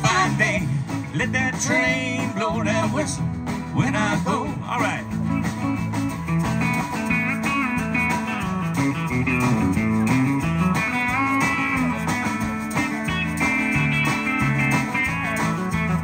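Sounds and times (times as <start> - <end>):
backing band with bass line: 0.0 - 16.0
country guitar lead: 0.0 - 16.0.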